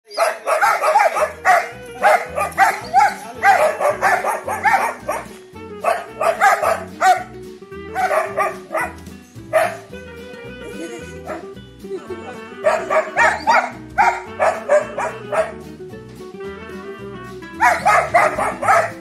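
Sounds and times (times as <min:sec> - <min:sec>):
dogs barking: 0:00.1 - 0:10.0, 0:10.8 - 0:11.5, 0:12.6 - 0:15.8, 0:17.6 - 0:19.0
background music: 0:00.1 - 0:19.0.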